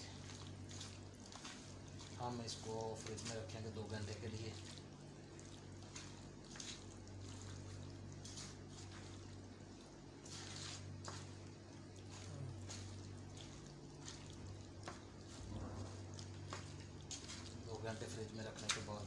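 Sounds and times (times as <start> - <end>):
steady low hum: 0.0 - 19.0
wet squelches of marinating chicken: 0.0 - 19.0.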